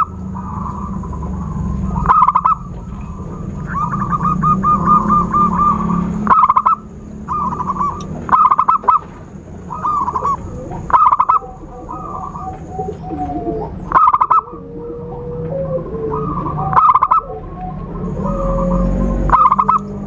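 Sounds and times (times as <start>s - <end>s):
doves cooing: 0.0s - 20.0s.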